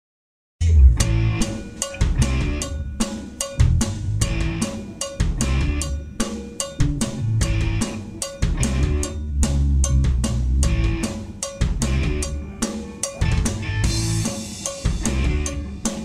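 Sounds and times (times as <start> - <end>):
drum kit groove: 0.6 - 16.0.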